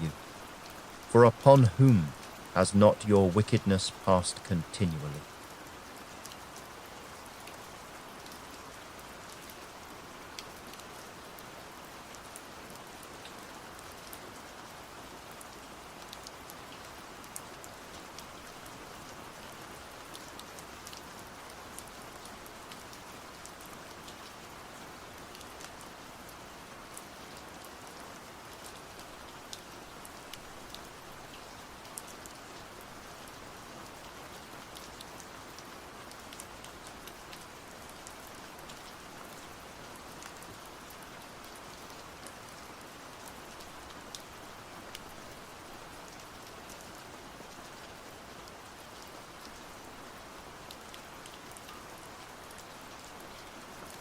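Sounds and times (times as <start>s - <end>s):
raindrops ticking on surface: 0.0s - 54.0s
steady rain hiss: 0.0s - 54.0s.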